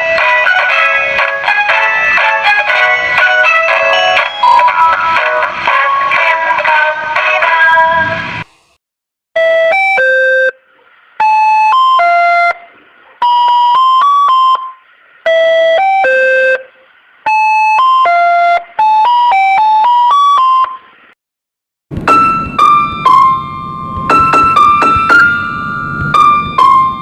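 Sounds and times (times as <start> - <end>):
ice cream van jingle: 0.0 - 7.8, 9.4 - 10.6, 11.2 - 21.0, 21.9 - 27.0.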